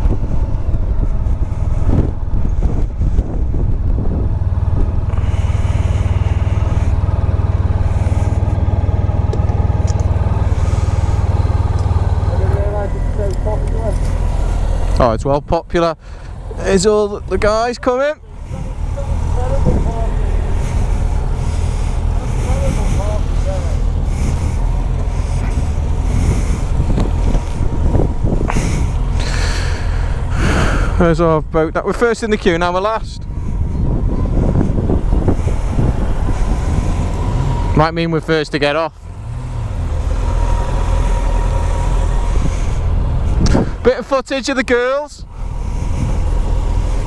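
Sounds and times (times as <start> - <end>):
wind buffeting microphone: 0.0 - 15.7, 16.3 - 38.0, 39.1 - 44.0, 45.2 - 47.0
motorcycle engine idling: 0.0 - 47.0.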